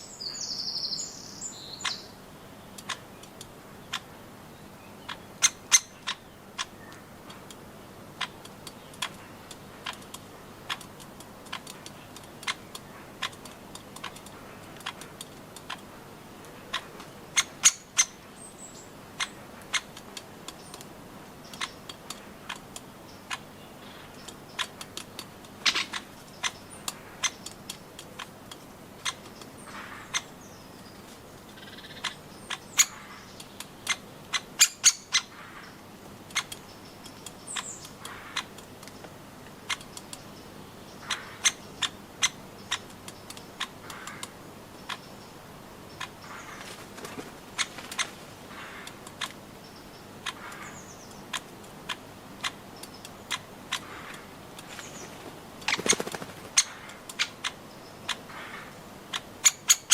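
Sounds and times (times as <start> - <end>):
birds tapping at nuts: 1.8 - 4.2, 4.9 - 59.9.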